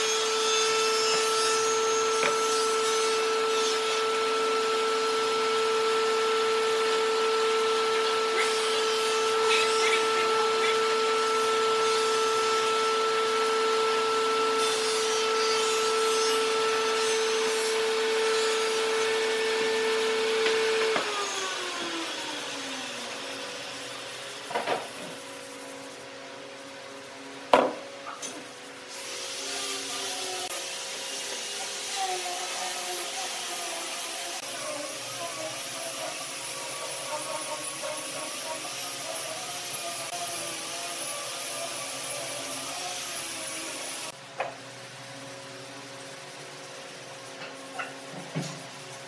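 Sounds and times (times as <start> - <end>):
whirring machine: 0.0 - 44.2.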